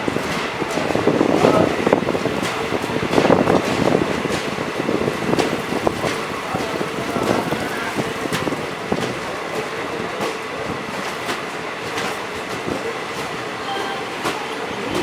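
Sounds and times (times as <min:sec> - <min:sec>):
train rumble: 0:00.0 - 0:15.0
train wheels clicking on rail joints: 0:00.0 - 0:15.0.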